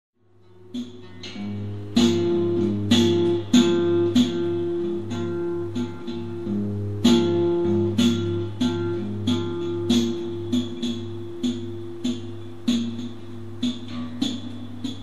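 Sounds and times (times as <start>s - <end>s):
prepared acoustic guitar plucking: 0.2s - 15.0s.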